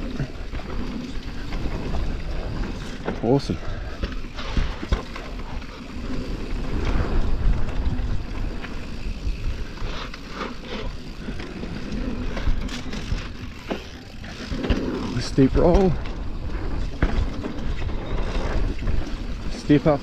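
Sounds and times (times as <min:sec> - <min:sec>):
tyres rumbling over dirt: 0:00.0 - 0:20.0
bike knocks and rattles: 0:00.1 - 0:20.0.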